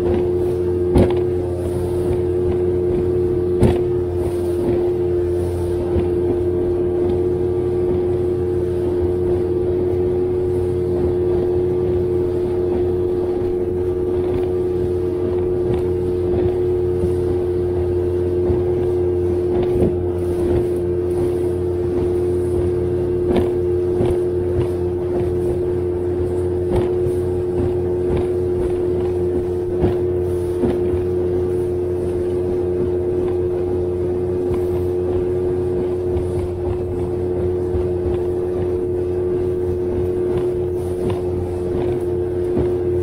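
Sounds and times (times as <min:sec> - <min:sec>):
hull slapping on water: 0:00.0 - 0:43.0
outboard motor running: 0:00.0 - 0:43.0.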